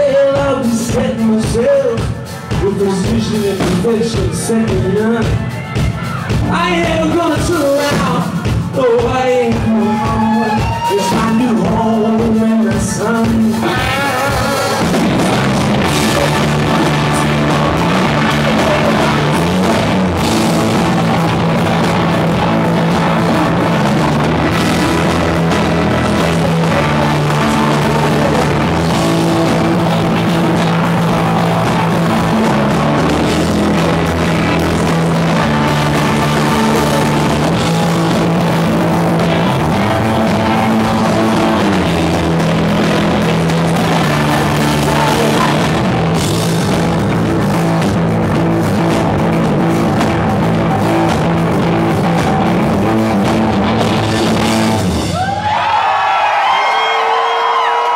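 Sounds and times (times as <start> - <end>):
bass line: 0.0 - 56.5
drum kit: 0.0 - 57.9
electric guitars: 0.0 - 57.9.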